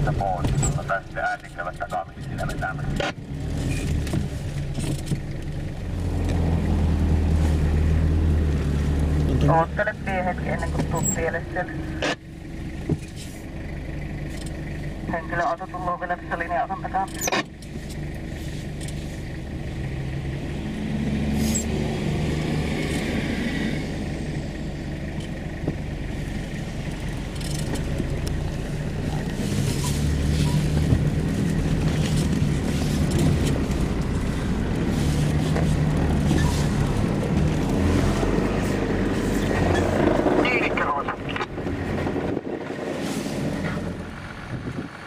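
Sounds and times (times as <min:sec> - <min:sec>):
car engine from inside cab: 0:00.0 - 0:45.0
road noise: 0:00.0 - 0:45.0.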